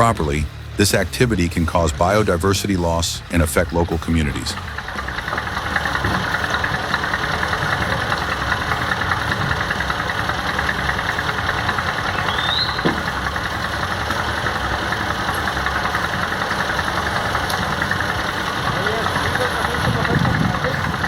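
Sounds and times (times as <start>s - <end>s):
engine running with rapid clatter: 0.0s - 21.0s.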